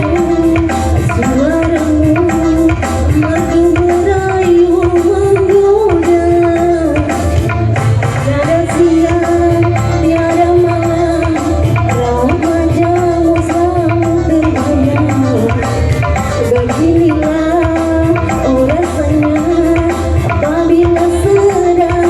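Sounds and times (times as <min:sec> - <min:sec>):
hand drum beat: 0:00.0 - 0:22.0.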